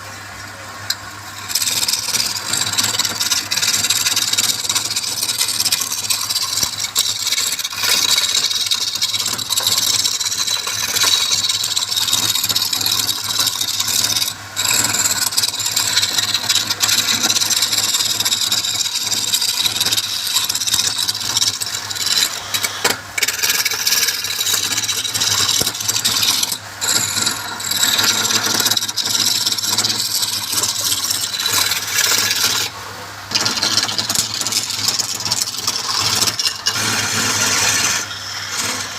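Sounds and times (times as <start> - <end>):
lathe motor hum: 0.5 - 38.9
turning tool rasping wood: 0.9 - 38.9.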